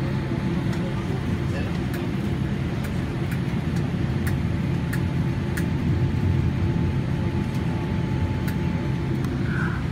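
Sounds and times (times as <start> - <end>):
airplane cabin rumble: 0.0 - 9.9.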